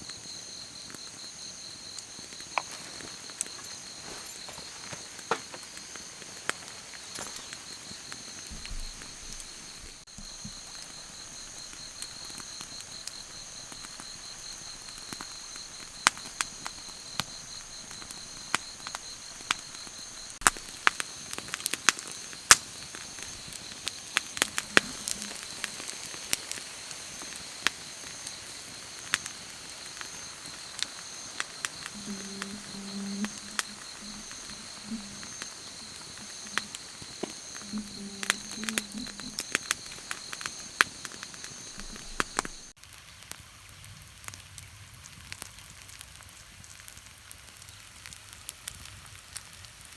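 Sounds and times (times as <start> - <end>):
insects trilling: 0.0 - 42.8
campfire crackling and popping: 0.0 - 49.9.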